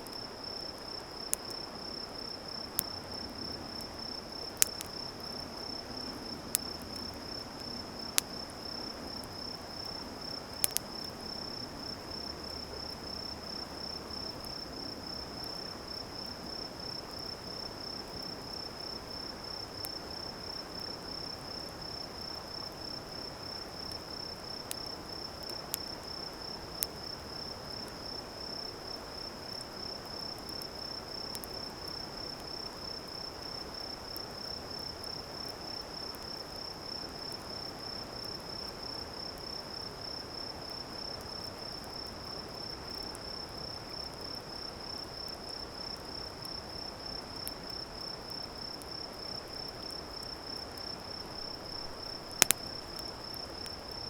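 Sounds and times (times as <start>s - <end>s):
background hiss: 0.0s - 54.0s
campfire crackles: 0.0s - 54.0s
crickets trilling: 0.0s - 54.0s.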